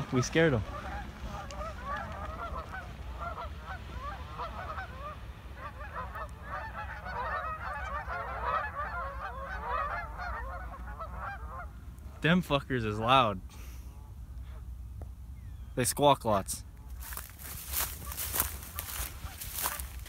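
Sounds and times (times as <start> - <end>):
geese honking: 0.0 - 14.8, 16.3 - 20.0.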